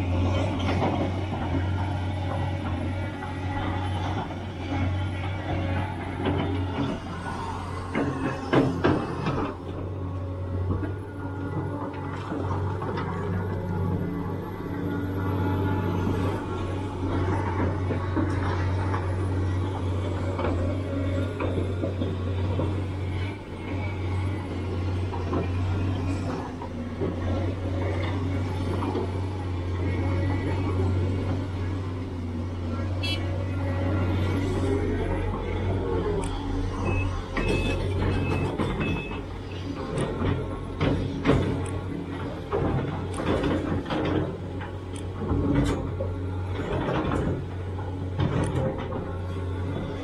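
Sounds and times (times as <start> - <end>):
excavator diesel engine humming: 0.0 - 50.0.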